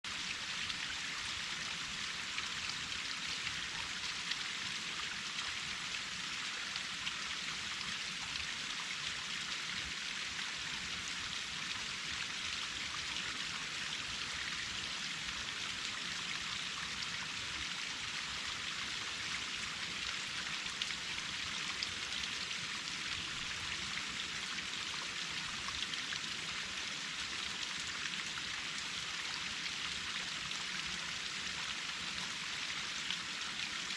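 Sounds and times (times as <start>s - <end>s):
waterfall pouring and splashing: 0.0s - 33.9s.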